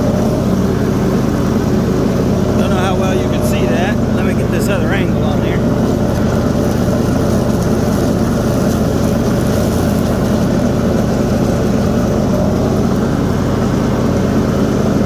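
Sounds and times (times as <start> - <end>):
mower engine running: 0.0 - 15.0.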